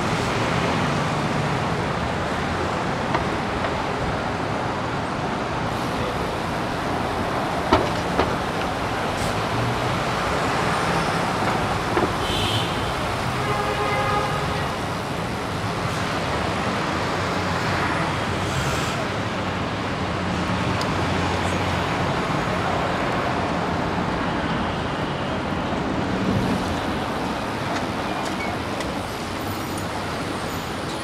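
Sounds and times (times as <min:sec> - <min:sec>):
tyres rushing on road: 0:00.0 - 0:31.0.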